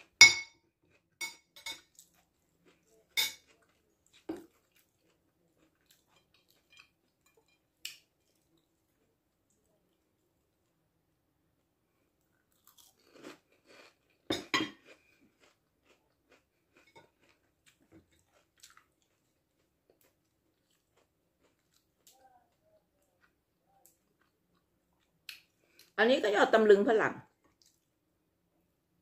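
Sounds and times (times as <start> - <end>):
crunching and chewing fried food: 0.0 - 10.9, 11.9 - 26.0, 27.3 - 28.1.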